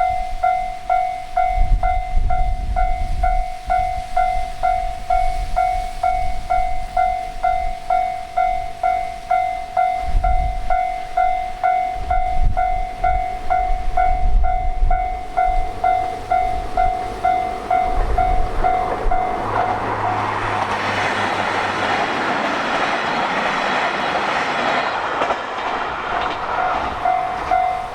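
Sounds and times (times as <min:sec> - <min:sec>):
approaching train: 0:00.0 - 0:27.9
railroad crossing bell ringing: 0:00.0 - 0:27.9.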